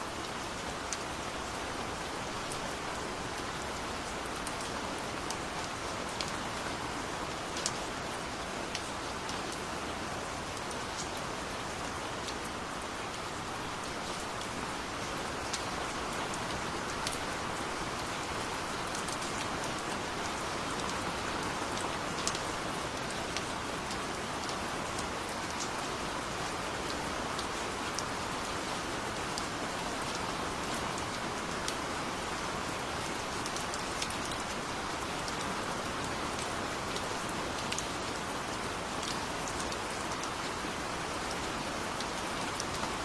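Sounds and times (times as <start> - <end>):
gentle rain falling: 0.0 - 43.0.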